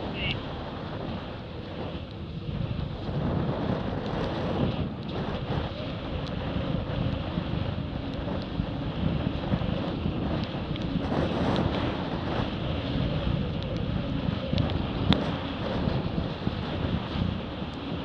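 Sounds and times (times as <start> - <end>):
water rushing along hulls: 0.0 - 18.0
wind buffeting microphone: 0.0 - 18.0.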